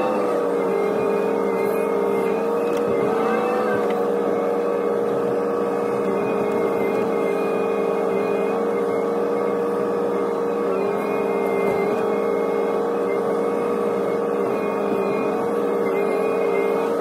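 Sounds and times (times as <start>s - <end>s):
excavator engine and hydraulic whine: 0.0s - 17.0s.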